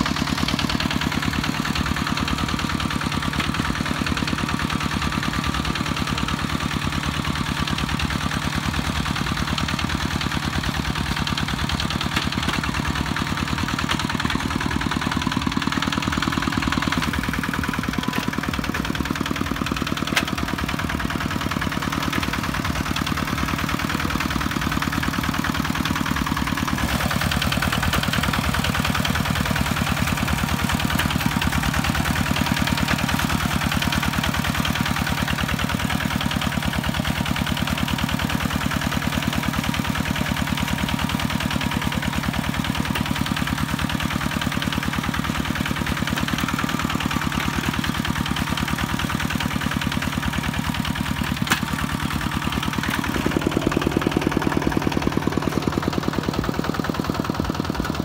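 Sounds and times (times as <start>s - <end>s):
diesel engine chugging: 0.0s - 58.0s.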